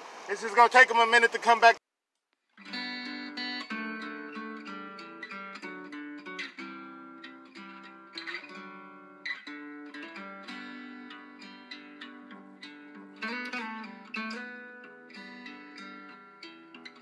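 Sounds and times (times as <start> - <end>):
acoustic guitar playing: 2.6 - 17.0.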